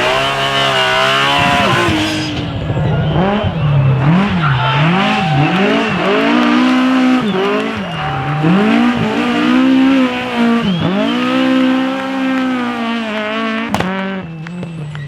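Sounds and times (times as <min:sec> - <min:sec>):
car engine revving hard: 0:00.0 - 0:15.0
tyres squealing: 0:00.8 - 0:12.9.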